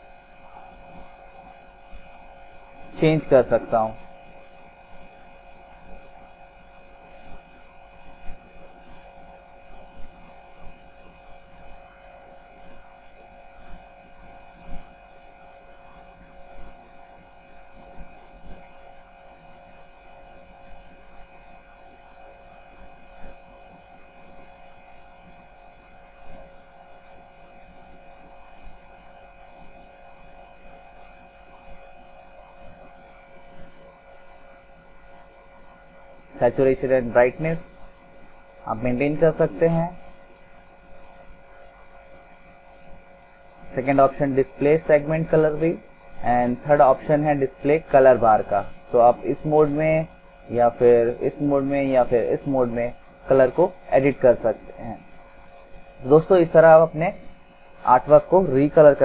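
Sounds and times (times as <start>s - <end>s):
electrical hum with high whine: 0.0s - 59.0s.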